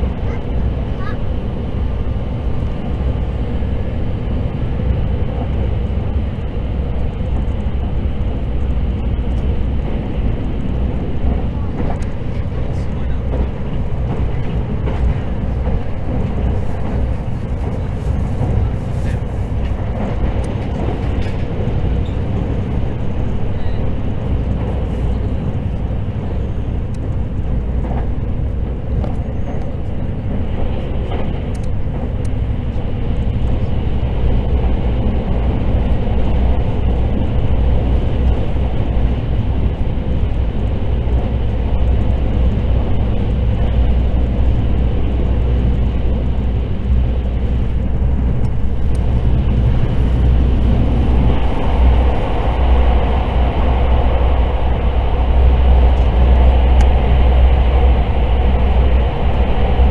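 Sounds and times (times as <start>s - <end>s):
train running hiss: 0.0s - 59.9s
train wheels rumbling on rail: 0.0s - 59.9s.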